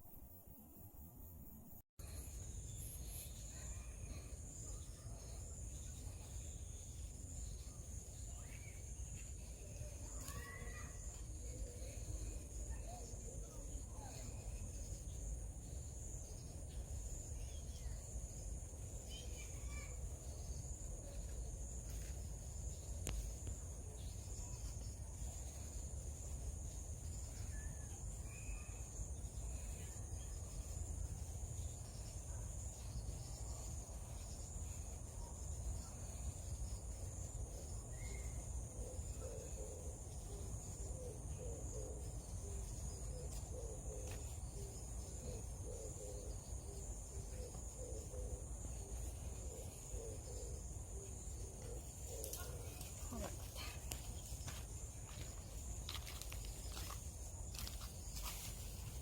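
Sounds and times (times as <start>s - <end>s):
insects droning in grass: 0.0s - 59.0s.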